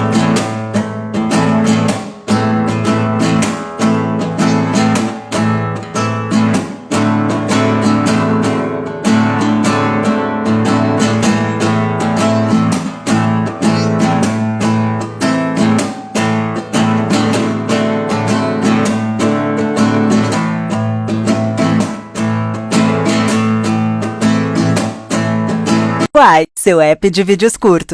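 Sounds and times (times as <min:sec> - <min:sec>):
acoustic guitar strumming: 0:00.0 - 0:26.1.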